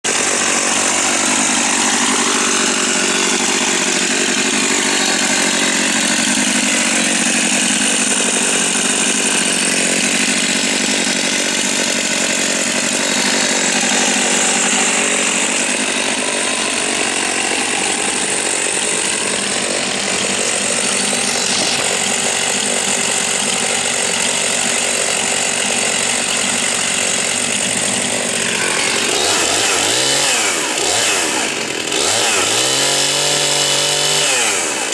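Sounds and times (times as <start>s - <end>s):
chainsaw idling: 0.0s - 34.9s.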